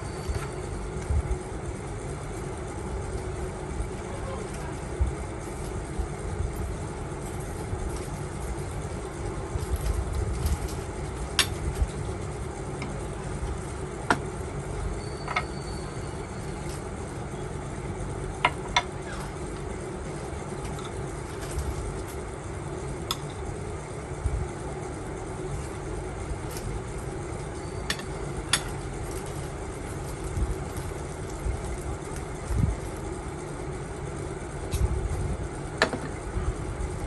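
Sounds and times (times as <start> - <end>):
engine idling rumble: 0.0 - 37.0.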